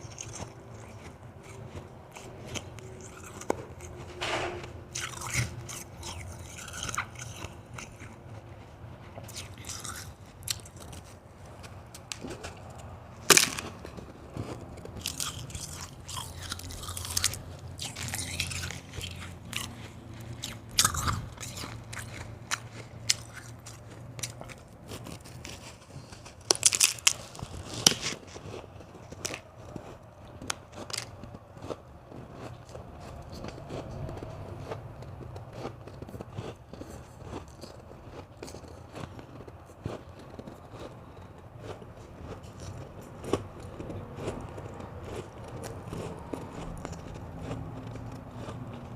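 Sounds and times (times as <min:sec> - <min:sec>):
person chewing ice: 0:00.0 - 0:48.9.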